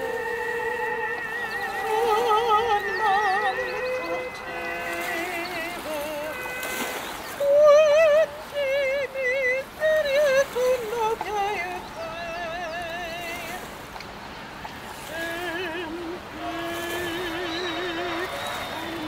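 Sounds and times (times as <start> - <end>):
high voice singing with vibrato: 0.0 - 13.9, 15.0 - 19.0.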